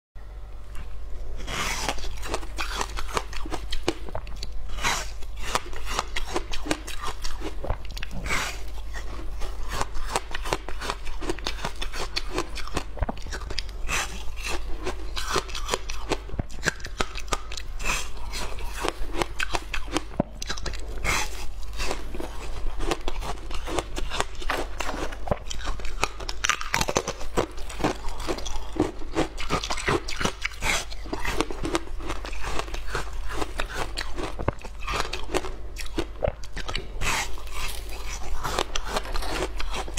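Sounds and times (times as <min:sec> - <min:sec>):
ice being bitten and chewed: 0:00.7 - 0:39.9.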